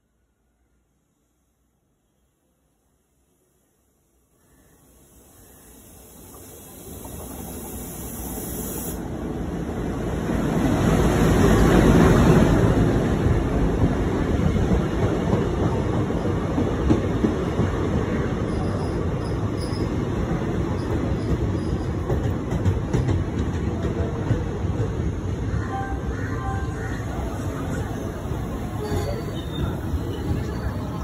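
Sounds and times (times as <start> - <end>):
train coaches rolling: 5.8 - 31.0.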